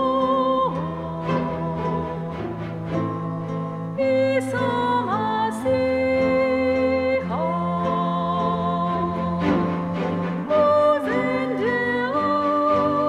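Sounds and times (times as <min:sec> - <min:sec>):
slow music of sliding held notes: 0:00.0 - 0:13.0.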